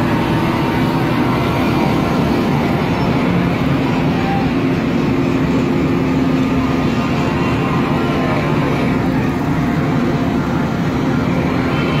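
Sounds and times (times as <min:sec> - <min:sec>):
car and motorcycle engines: 0:00.0 - 0:12.0.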